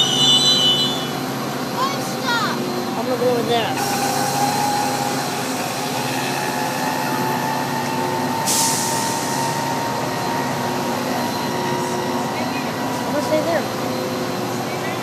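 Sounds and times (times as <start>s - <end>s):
train droning with high tone: 0.0s - 15.0s.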